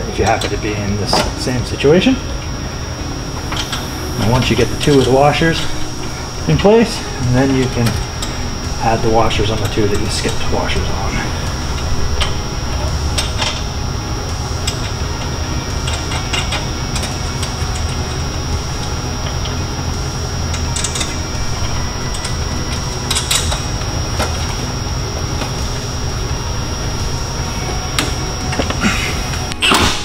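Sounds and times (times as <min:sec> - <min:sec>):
low hum: 0:00.0 - 0:30.0
thin high whine: 0:00.0 - 0:30.0.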